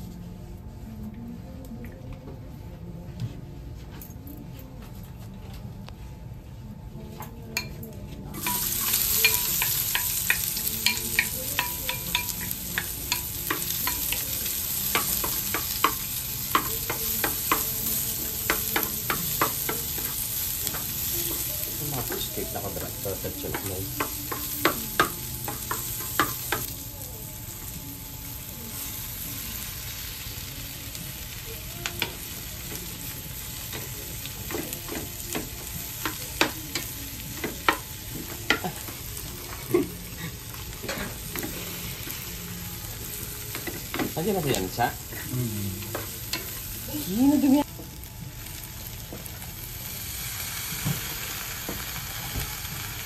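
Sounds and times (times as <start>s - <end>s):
food sizzling in a frying pan: 8.3s - 53.0s.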